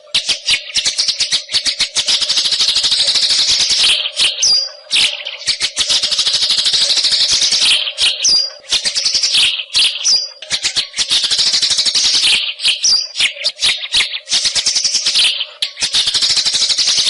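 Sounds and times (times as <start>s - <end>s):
bird singing chattering song: 0.0s - 17.0s
high whistled bird notes: 0.2s - 17.0s.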